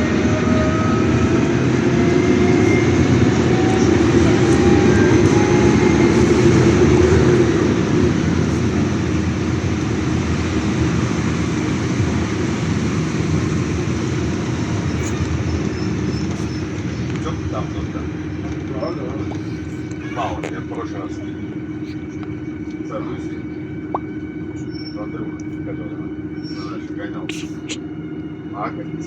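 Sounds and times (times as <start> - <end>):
bus engine and road rumble: 0.0 - 29.0
rising engine whine: 0.0 - 29.0.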